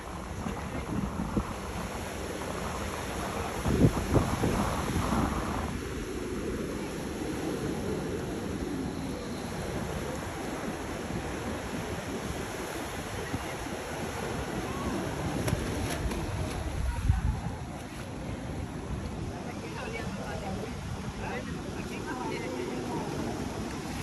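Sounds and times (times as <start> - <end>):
sea water washing against seawall: 0.0 - 24.0
wind buffeting microphone: 0.0 - 24.0.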